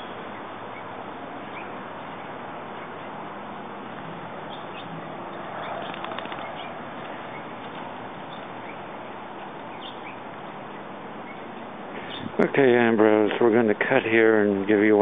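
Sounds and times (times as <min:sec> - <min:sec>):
birds chirping: 0:00.0 - 0:15.0
steady background hiss: 0:00.0 - 0:15.0.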